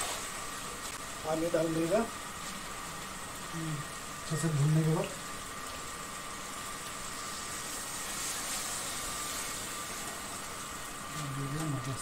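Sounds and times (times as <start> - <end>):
water hissing in hot wok: 0.0 - 12.0.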